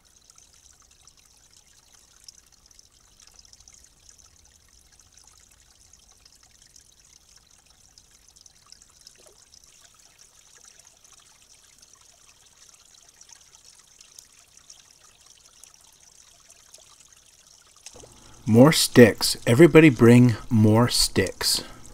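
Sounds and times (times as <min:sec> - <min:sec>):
water trickling: 0:00.0 - 0:21.9.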